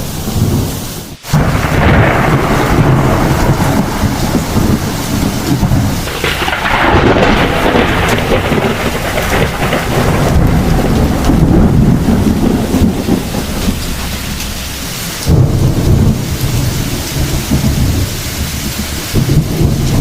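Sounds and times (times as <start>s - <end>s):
heavy rain falling: 0.0s - 20.0s
thunder rumbling: 0.0s - 20.0s.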